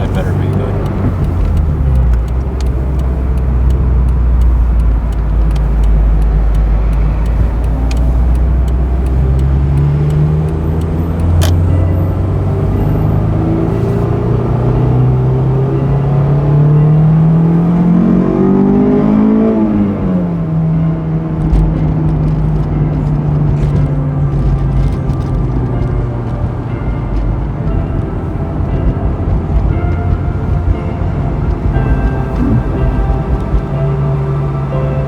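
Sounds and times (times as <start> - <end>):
car engine revving: 0.0 - 27.2, 28.2 - 35.0.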